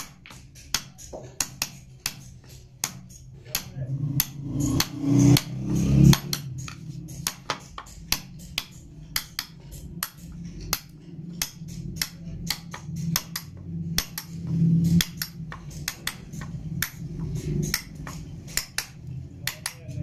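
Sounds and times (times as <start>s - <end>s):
chisel tapping into wood: 0.0s - 5.5s, 6.1s - 14.4s, 15.0s - 20.0s.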